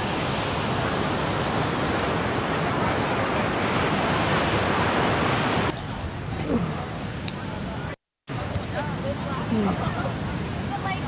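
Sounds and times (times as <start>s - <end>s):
waves rushing on beach: 0.0s - 11.0s.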